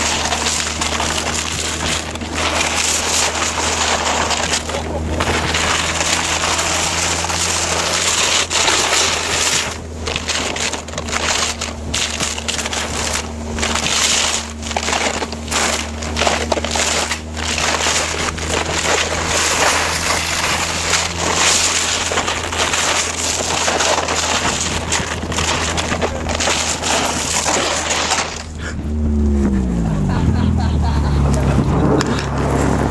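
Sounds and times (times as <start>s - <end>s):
car engine hum: 0.0s - 32.9s
wind and road noise: 0.0s - 32.9s.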